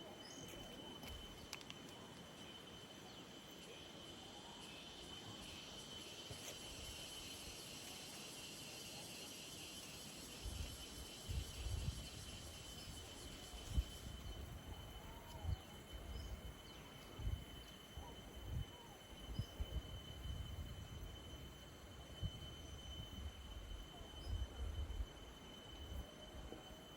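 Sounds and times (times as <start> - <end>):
insects trilling: 0.0 - 26.9.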